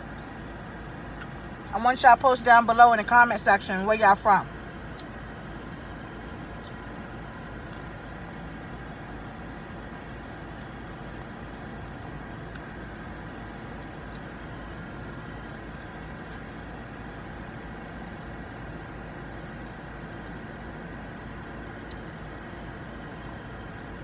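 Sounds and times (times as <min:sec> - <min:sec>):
air conditioning blowing: 0:00.0 - 0:24.0.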